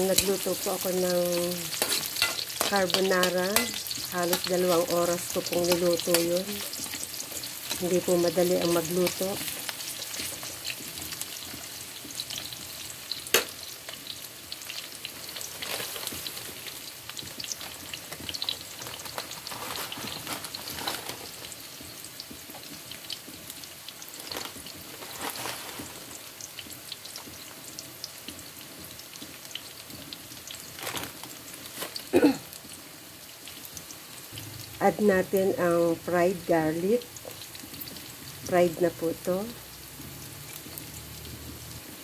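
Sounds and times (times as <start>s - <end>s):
onions sizzling in hot oil: 0.0s - 42.0s.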